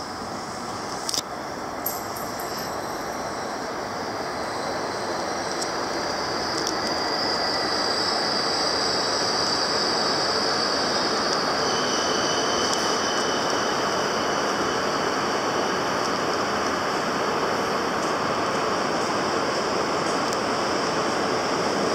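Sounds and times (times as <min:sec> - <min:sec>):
high train whines: 0:00.0 - 0:21.9
low train whine: 0:00.0 - 0:21.9
train rushing noise: 0:00.0 - 0:21.9.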